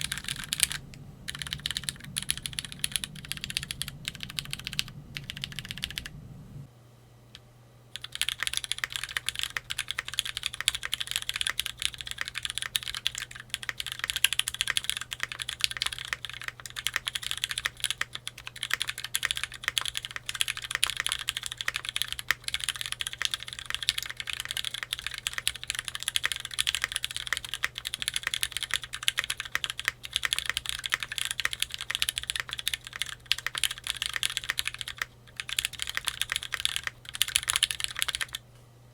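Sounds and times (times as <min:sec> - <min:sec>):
mechanical keyboard typing: 0:00.0 - 0:06.1, 0:08.0 - 0:38.4
faint low hum: 0:00.0 - 0:38.9.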